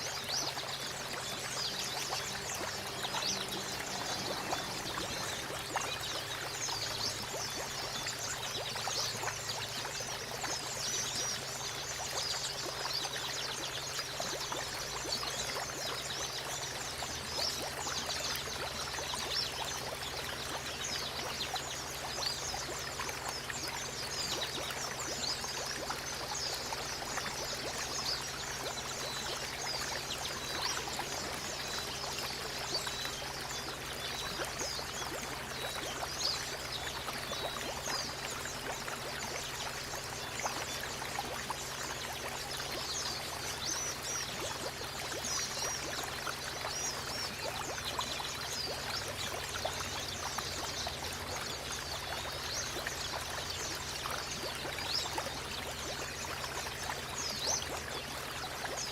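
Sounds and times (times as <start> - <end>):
running water: 0.0 - 58.9
small birds chirping: 0.0 - 58.9.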